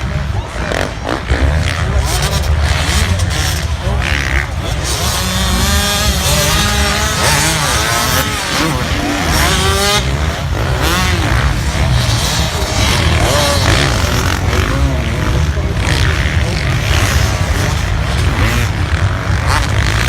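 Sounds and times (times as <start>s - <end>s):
motocross bikes revving past: 0.0s - 20.0s.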